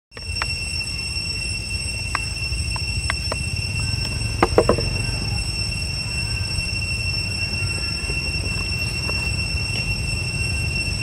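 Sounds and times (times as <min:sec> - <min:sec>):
high-pitched whine: 0:00.1 - 0:11.0.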